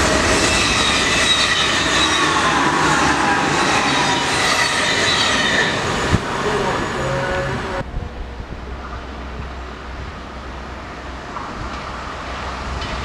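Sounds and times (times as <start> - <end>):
train wheels rushing on rails: 0.0 - 7.9, 8.6 - 13.0.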